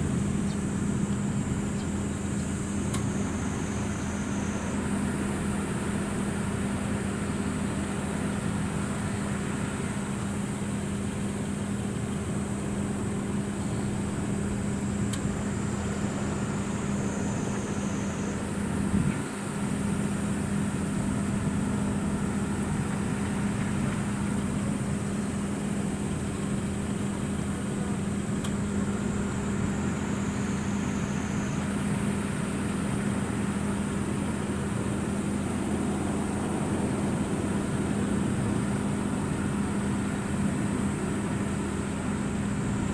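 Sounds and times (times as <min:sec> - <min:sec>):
faint high whine: 0:00.0 - 0:42.9
machine hum: 0:00.0 - 0:42.9.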